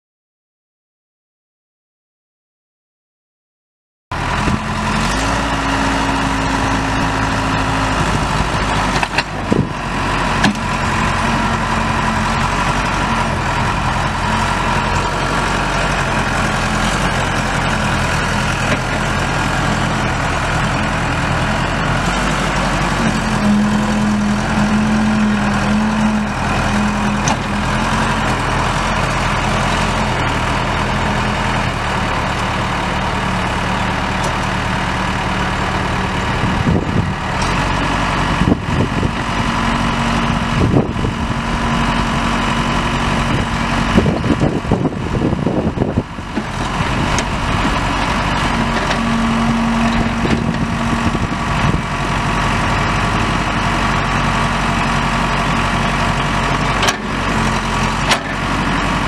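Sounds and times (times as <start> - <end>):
diesel engine running: 4.1 - 59.0.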